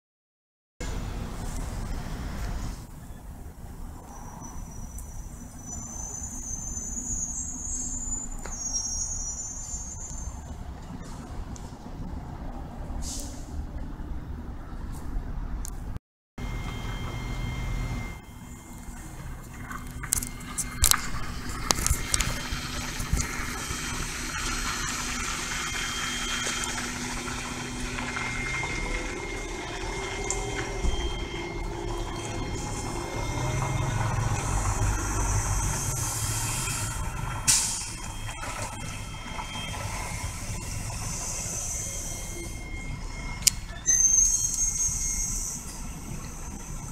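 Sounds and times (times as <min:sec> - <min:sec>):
large truck running: 0:00.8 - 0:46.9.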